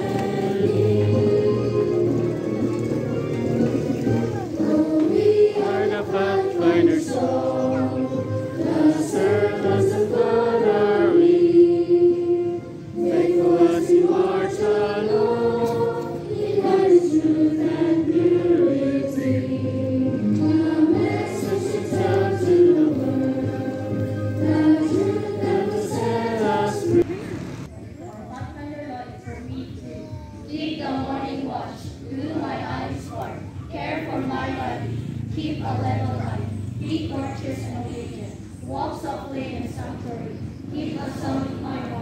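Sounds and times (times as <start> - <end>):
many voices singing slowly: 0.0 - 27.4, 30.5 - 42.0.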